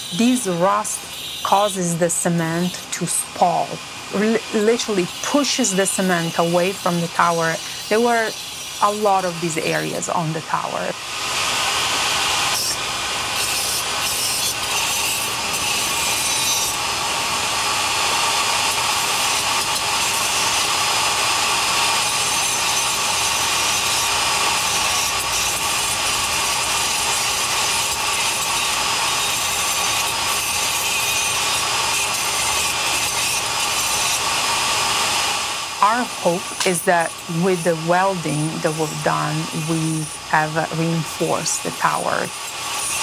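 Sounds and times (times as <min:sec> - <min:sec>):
rotary tool grinding: 0:00.0 - 0:43.0.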